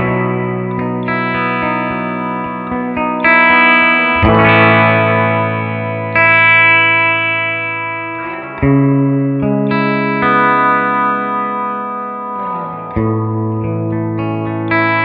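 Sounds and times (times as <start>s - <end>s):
electric guitar chords with reverb: 0.0s - 15.0s.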